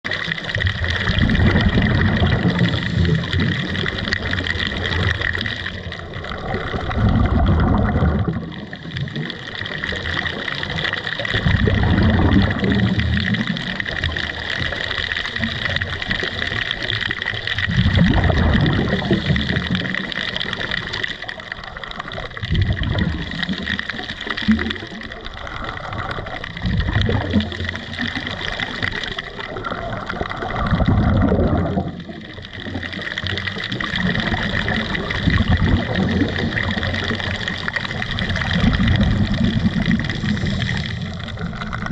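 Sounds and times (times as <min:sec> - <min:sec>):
underwater regulator bubbling exhale: 0:00.1 - 0:41.9.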